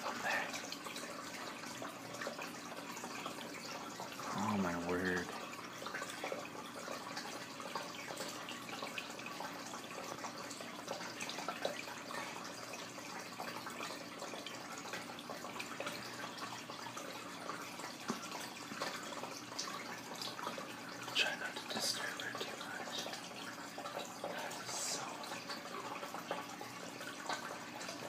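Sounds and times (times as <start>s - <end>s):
filter water trickling: 0.0s - 28.0s
water drips: 0.0s - 28.0s.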